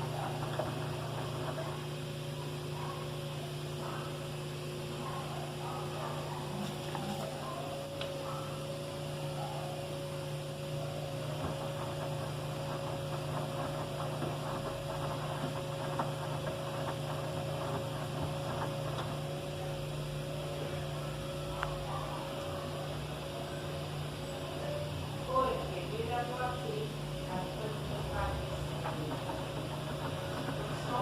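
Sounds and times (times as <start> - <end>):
faint wavering whine: 0.0 - 13.6, 14.2 - 31.0
washing machine motor hum: 0.0 - 31.0.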